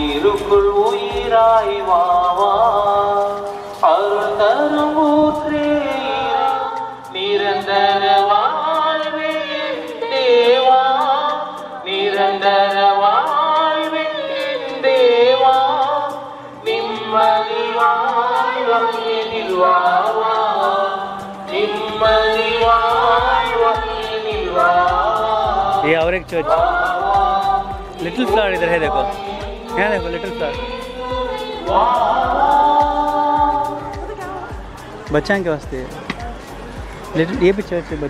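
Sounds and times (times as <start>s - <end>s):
choral singing: 0.0s - 35.1s
light steady beat: 0.0s - 38.0s.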